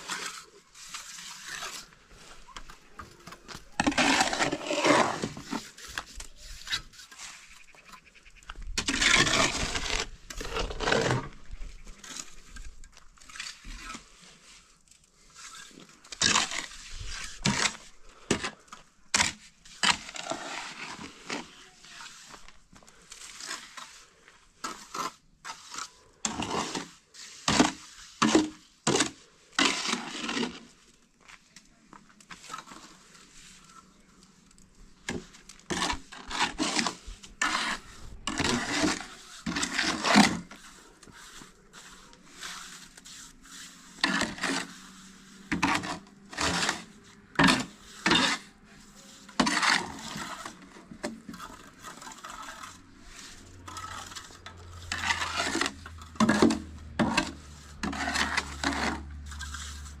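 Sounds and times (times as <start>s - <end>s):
scraping and knocking strokes: 0.0s - 30.9s, 32.2s - 60.0s.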